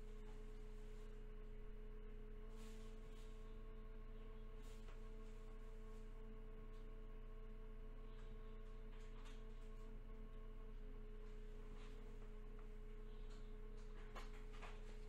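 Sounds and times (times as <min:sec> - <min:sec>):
electrical humming tones: 0:00.0 - 0:15.0.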